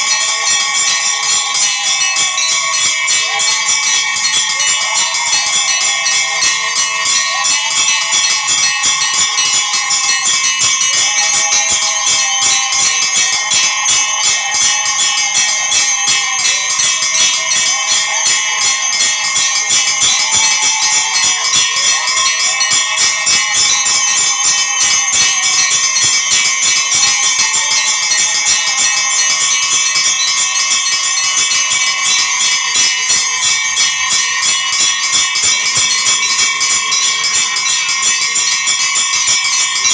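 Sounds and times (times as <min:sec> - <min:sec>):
temple bells ringing: 0:00.0 - 0:39.9.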